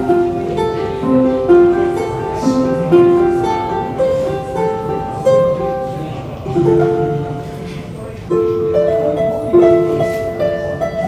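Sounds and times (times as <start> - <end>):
plucked instrumental melody: 0.0 - 11.0
soft lower accompaniment: 0.0 - 11.0.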